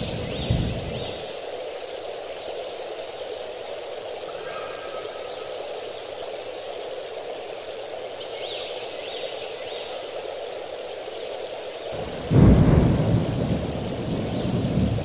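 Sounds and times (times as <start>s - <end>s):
rushing rain or water: 0.0s - 15.0s.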